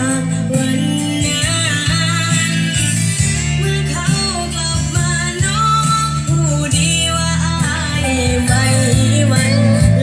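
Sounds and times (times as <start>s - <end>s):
song with singing and guitar: 0.0s - 10.0s
steady bass notes: 0.0s - 10.0s.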